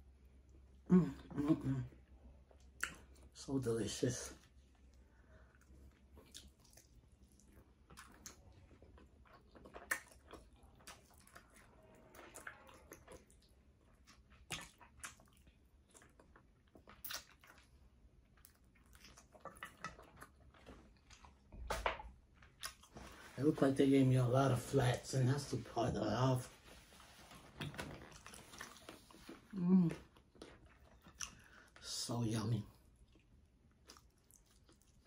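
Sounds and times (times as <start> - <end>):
low background hum: 0.0 - 35.0
chewing and mouth sounds: 0.4 - 3.4, 4.3 - 23.2, 27.6 - 31.8, 32.7 - 35.0.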